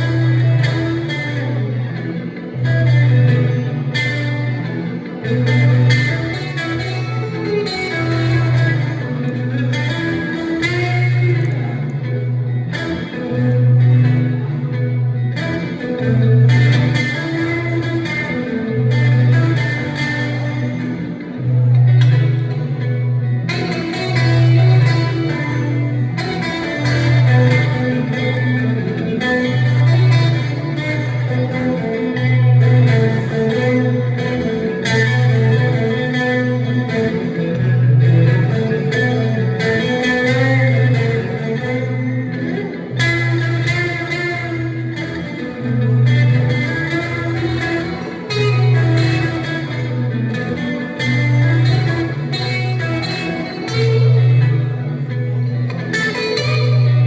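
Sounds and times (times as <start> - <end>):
looped low guitar riff: 0.0 - 57.0
plucked lead guitar notes: 0.0 - 57.0.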